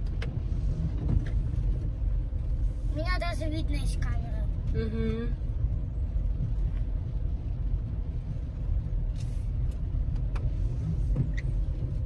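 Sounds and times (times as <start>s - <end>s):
car engine rumble: 0.0s - 12.0s
road noise inside car: 0.0s - 12.0s.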